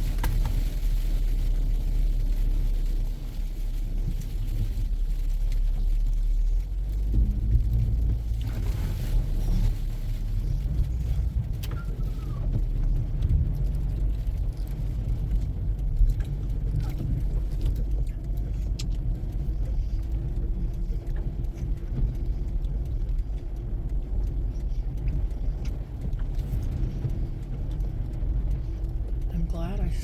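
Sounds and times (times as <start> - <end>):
car cabin rumble: 0.0 - 30.0
faint ticks: 0.1 - 30.0.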